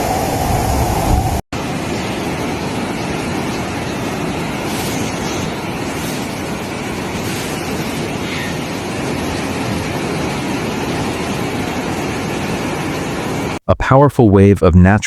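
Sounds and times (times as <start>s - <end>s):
floodwater rushing: 1.1s - 13.6s.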